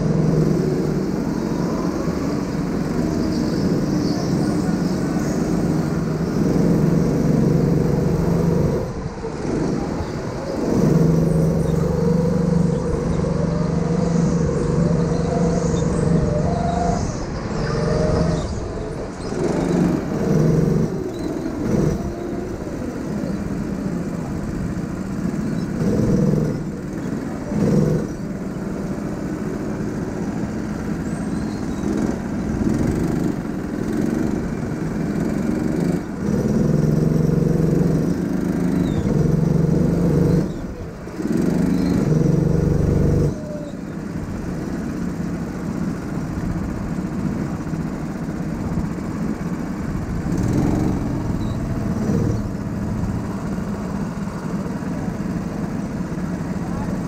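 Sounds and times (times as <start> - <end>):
go-kart engine running hard: 0.0 - 57.0.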